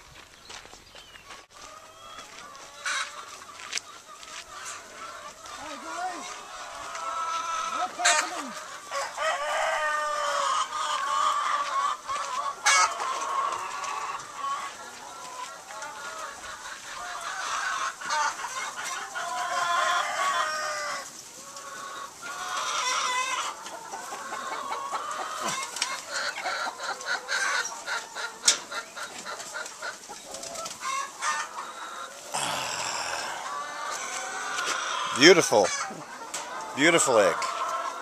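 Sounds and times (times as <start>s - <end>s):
hens clucking: 0.0s - 38.0s.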